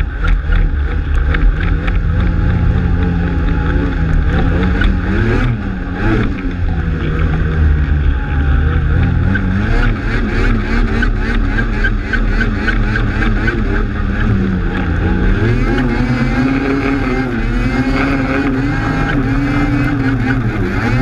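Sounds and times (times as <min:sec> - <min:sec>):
snowmobile engine running hard: 0:00.0 - 0:21.0.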